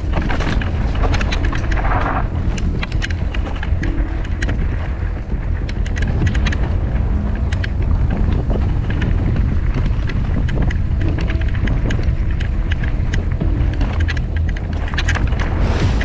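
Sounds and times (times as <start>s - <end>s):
bike rattles and clicks: 0.0s - 16.0s
wind noise on microphone: 0.0s - 16.0s.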